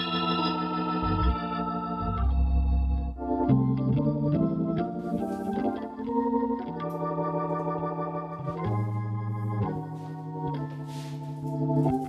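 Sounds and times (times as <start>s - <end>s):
organ music: 0.0s - 12.0s.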